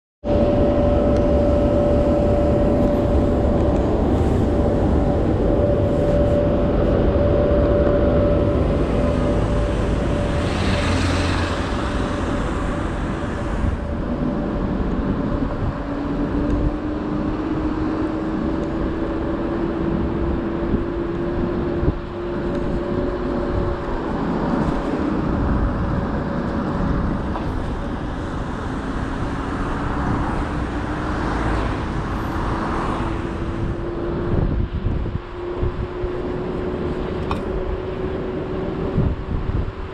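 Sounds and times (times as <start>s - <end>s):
electric scooter motor whine: 0.2s - 39.9s
rush of noise: 0.2s - 39.9s
steady high whine: 0.2s - 39.9s
wind noise: 0.2s - 39.9s.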